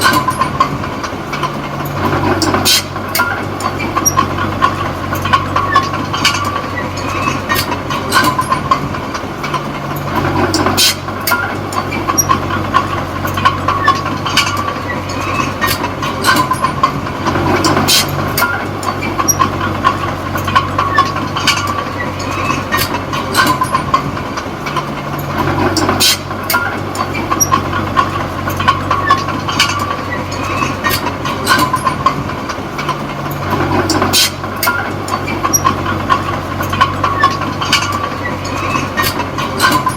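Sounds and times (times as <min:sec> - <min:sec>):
bulldozer diesel engine running: 0:00.0 - 0:39.9
steel tracks rattling and clanking: 0:00.0 - 0:39.9.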